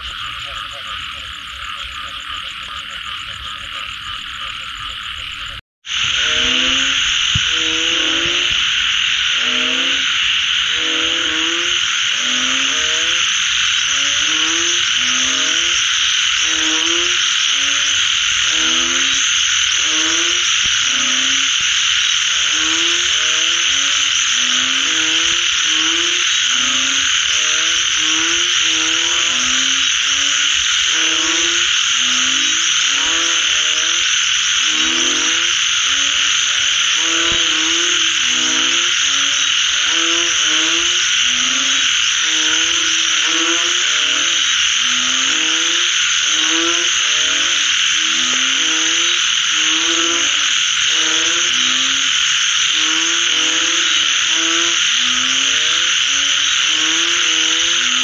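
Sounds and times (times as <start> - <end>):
frogs croaking in chorus: 0.0 - 58.0.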